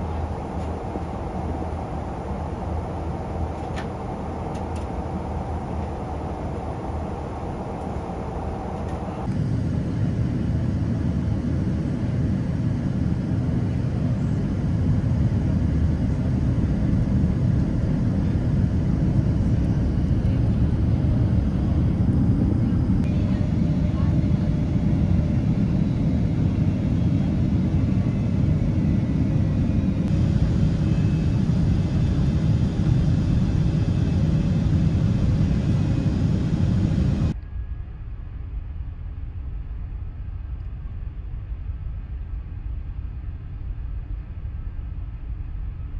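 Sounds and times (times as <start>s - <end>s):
deep rumble of aircraft cabin: 0.0s - 45.9s.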